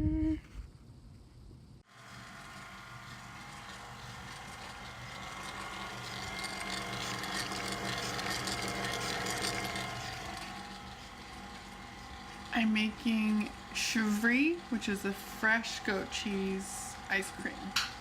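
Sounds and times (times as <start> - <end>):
kitchen machine gear whir: 1.8 - 18.0.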